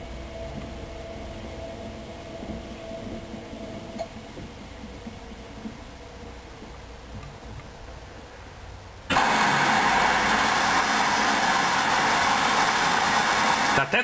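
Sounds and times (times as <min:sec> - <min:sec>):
washing machine hum: 0:00.0 - 0:14.0
washing machine rushing noise: 0:00.0 - 0:14.0.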